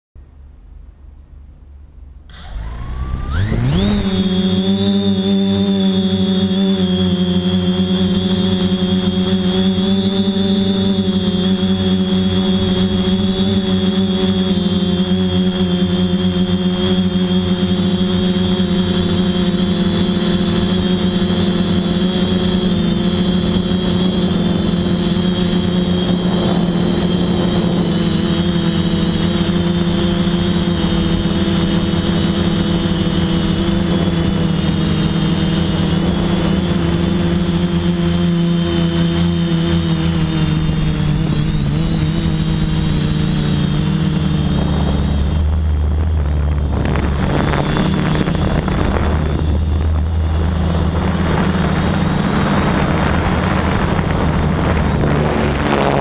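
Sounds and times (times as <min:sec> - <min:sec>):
drone motors buzzing: 0:02.3 - 0:56.0.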